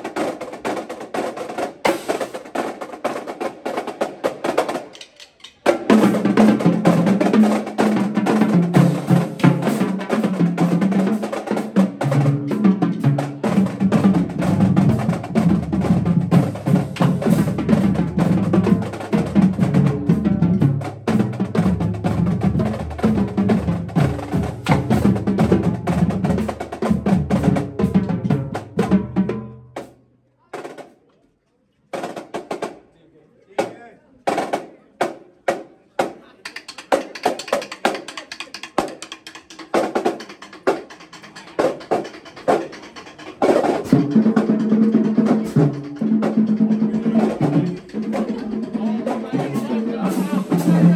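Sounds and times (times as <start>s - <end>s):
marching drumline playing: 0.0s - 31.0s, 31.9s - 32.9s, 33.6s - 50.9s.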